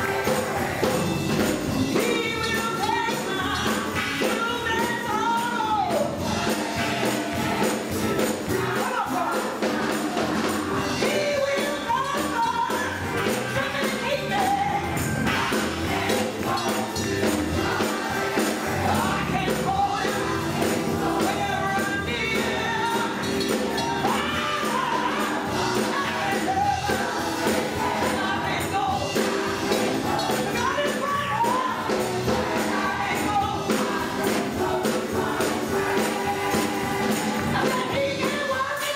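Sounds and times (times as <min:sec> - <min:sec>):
band accompaniment: 0:00.0 - 0:38.9
gospel choir singing: 0:00.0 - 0:38.9
tambourine beat: 0:00.0 - 0:38.9.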